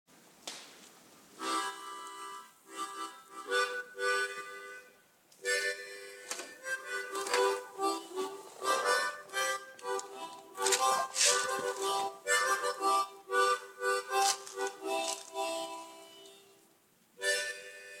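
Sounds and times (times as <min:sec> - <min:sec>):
harmonica chordal phrases: 0:01.4 - 0:18.0.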